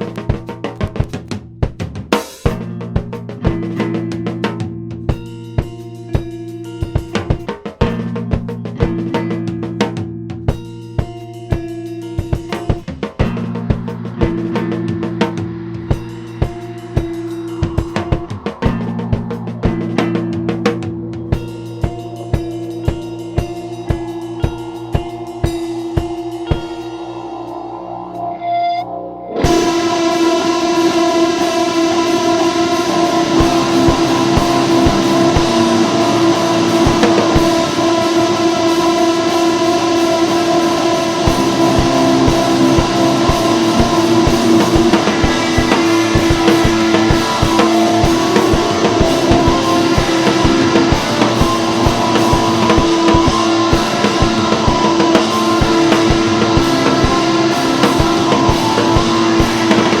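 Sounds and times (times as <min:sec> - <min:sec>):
drum kit steady beat: 0:00.0 - 0:28.2, 0:29.4 - 1:00.0
distorted electric guitar: 0:00.0 - 1:00.0
held guitar note: 0:11.6 - 1:00.0.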